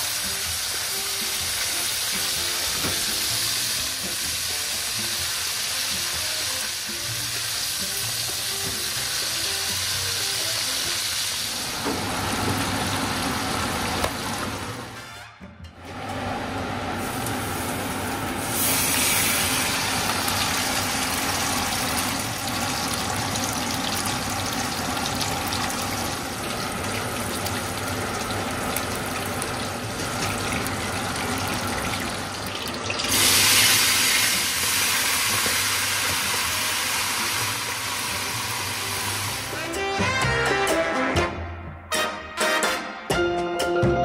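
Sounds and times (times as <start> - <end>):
fish deep-frying in hot oil: 0.0 - 14.7, 17.0 - 39.6.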